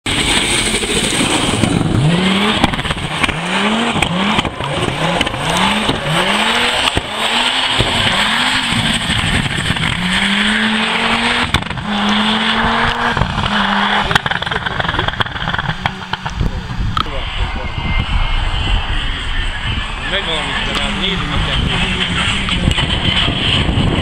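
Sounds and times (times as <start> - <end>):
car engine revving hard: 0.1 - 24.0.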